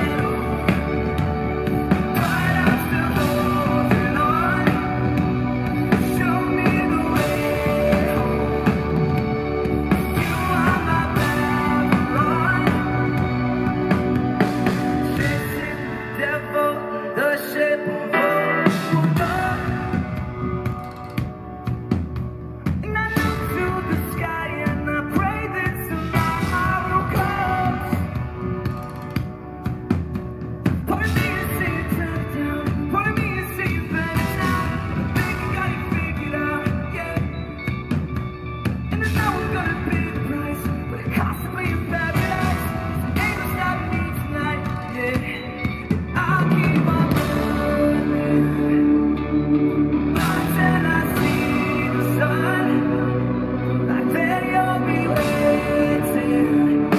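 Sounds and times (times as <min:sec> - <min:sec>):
drum kit: 0:00.0 - 0:16.8, 0:18.2 - 0:56.9
electric bass guitar: 0:00.0 - 0:17.2, 0:18.1 - 0:56.9
man singing into microphone: 0:00.0 - 0:21.0, 0:22.8 - 0:29.0, 0:30.8 - 0:37.9, 0:38.9 - 0:49.5, 0:50.1 - 0:56.9
keyboards: 0:00.0 - 0:56.9.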